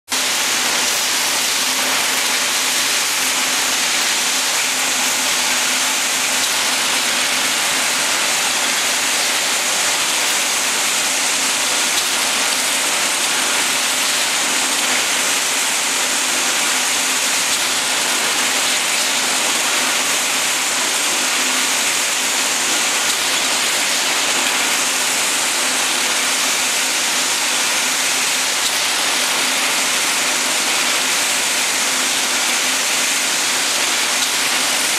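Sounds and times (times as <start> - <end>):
machine whirring hiss: 0.1 - 34.9.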